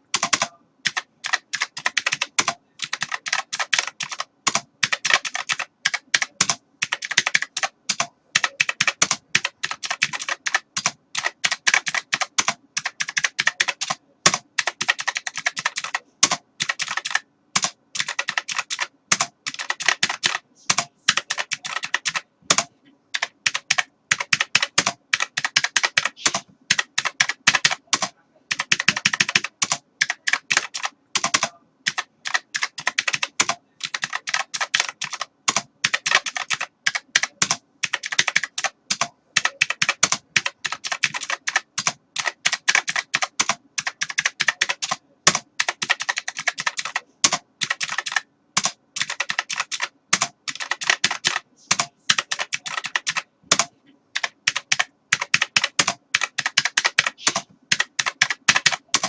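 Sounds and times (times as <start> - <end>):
computer keyboard typing: 0.0 - 59.0.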